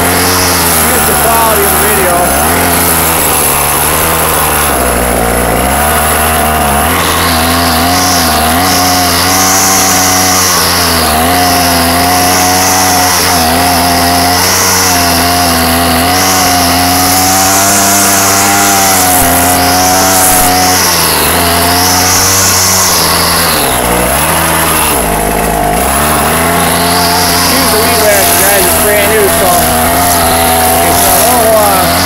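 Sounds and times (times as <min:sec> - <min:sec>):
string trimmer running: 0:00.0 - 0:32.0.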